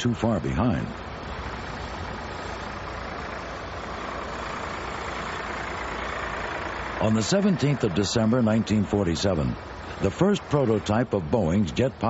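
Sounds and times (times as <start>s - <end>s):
aircraft engines rushing: 0.0s - 12.0s.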